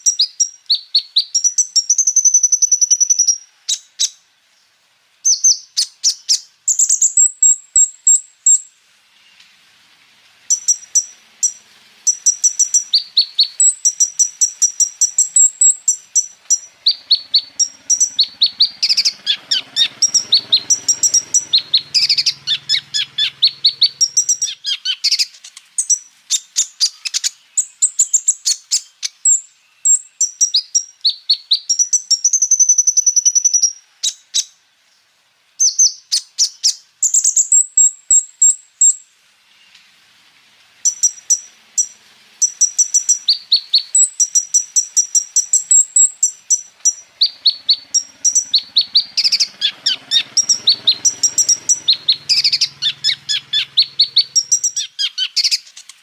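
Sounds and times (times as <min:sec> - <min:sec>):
bird singing rapid chirps and trills: 0:00.0 - 0:04.2, 0:05.2 - 0:08.7, 0:10.5 - 0:34.6, 0:40.9 - 0:56.0.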